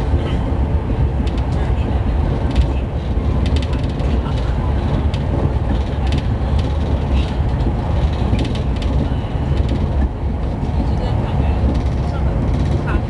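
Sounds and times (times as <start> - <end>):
train wheels and airflow rumble: 0.0 - 13.0.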